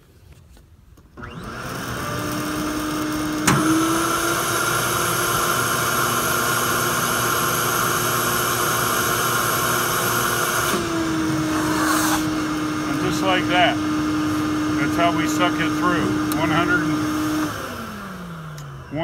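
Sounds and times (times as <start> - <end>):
shop vacuum motor humming: 1.2 - 19.0.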